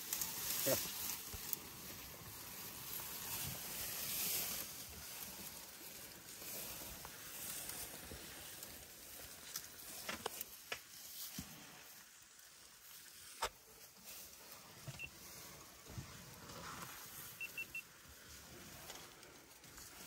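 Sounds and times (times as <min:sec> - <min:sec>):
rustling of vegetation: 0:00.0 - 0:20.0.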